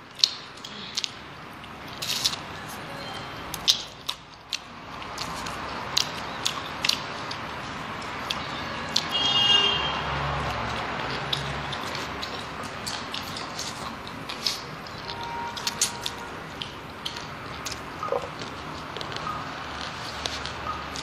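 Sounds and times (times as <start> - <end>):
wet chewing and lip smacks: 0.1 - 2.7, 3.5 - 9.2, 10.4 - 21.0.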